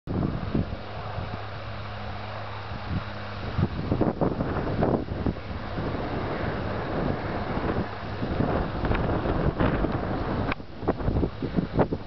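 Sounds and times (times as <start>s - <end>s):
steady low hum: 0.1s - 12.0s
wind buffeting microphone: 0.1s - 12.0s.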